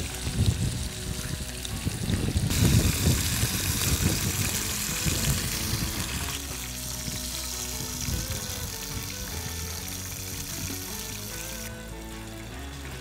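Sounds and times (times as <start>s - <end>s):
background music: 0.0s - 13.0s
meat sizzling in hot oil: 0.0s - 13.0s.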